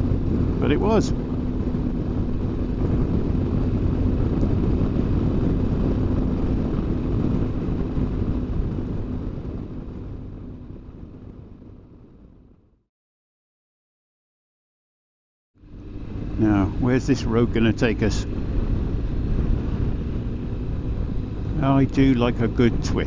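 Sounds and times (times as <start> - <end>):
wind rushing on microphone: 0.0 - 12.6, 15.6 - 23.0
motorcycle engine hum: 0.0 - 12.8, 15.6 - 23.0.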